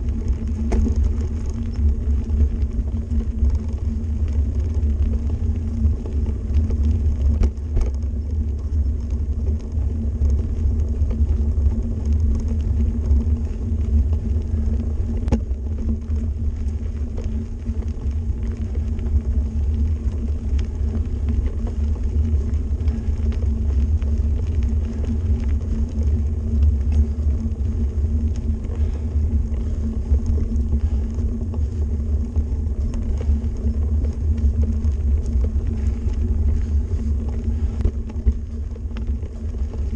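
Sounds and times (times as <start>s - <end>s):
tyres rumbling on gravel: 0.0s - 39.9s.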